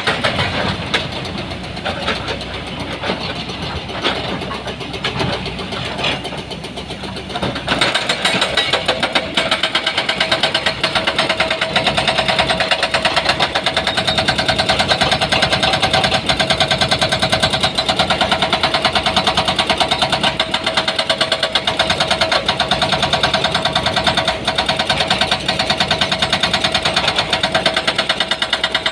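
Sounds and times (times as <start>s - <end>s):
heavy diesel engine running: 0.0s - 28.9s.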